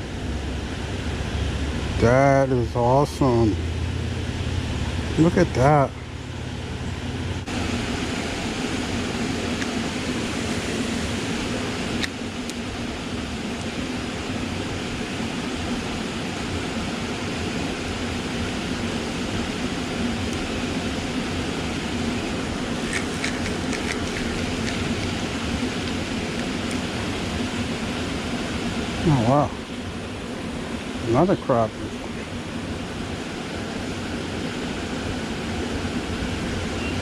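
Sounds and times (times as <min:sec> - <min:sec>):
river water pouring over falls: 0:06.9 - 0:37.0.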